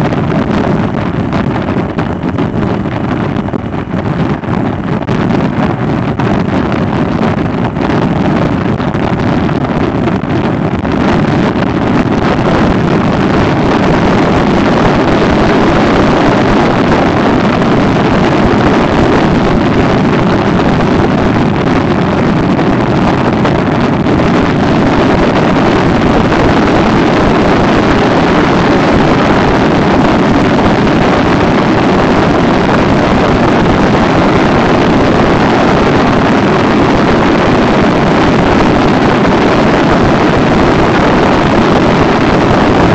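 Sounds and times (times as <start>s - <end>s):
loud wind rush over microphone: 0.0s - 42.9s
motorcycle engine drone: 0.0s - 42.9s.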